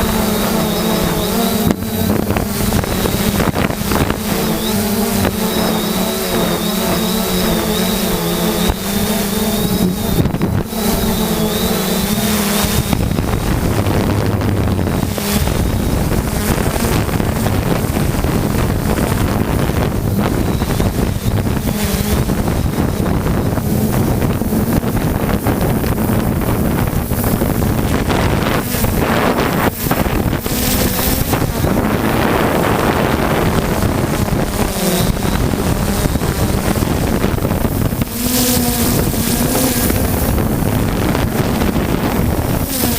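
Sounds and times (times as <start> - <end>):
drone motors humming: 0.0 - 42.9
wind buffeting microphone: 0.0 - 42.9.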